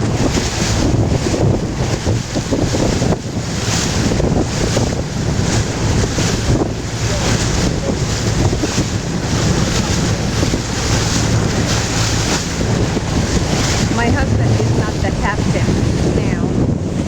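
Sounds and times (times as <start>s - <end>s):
water washing along hull: 0.0s - 17.0s
wind buffeting microphone: 0.0s - 17.0s.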